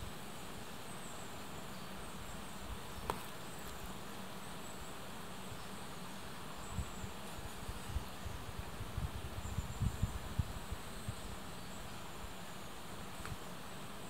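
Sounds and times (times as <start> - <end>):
faint high insect chirps: 0.0 - 14.0
outdoor background hiss: 0.0 - 14.0.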